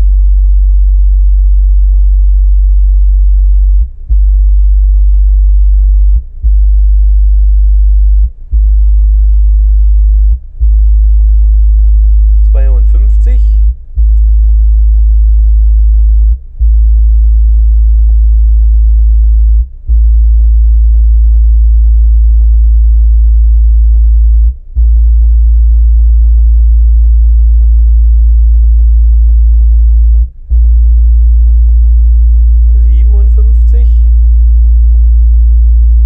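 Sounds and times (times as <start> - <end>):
deep sine test tone from subwoofer: 0.0 - 36.0.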